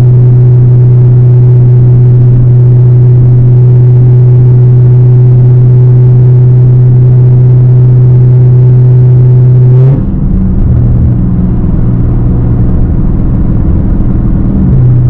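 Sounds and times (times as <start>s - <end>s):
loud low exhaust drone: 0.0s - 15.0s.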